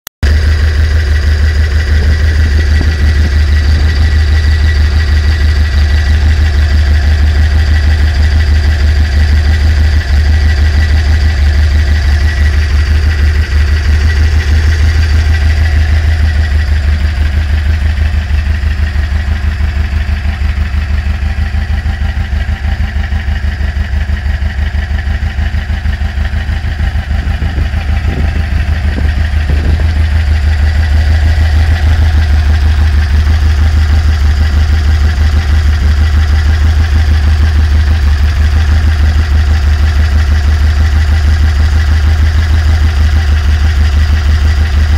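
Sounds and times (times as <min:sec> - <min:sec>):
car engine idling: 0:00.2 - 0:44.9.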